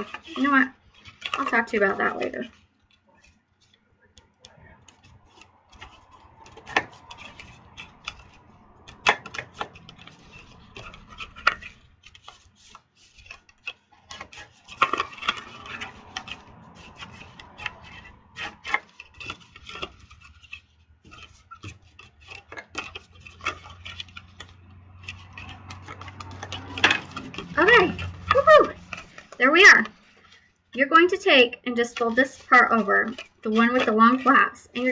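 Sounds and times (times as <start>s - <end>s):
cardstock folding and rustling: 0.0s - 34.9s.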